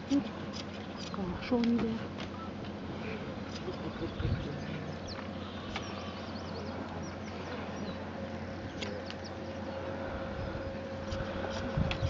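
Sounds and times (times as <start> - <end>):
steady low hum: 0.0 - 12.0
small birds chirping: 0.1 - 1.7, 2.3 - 12.0.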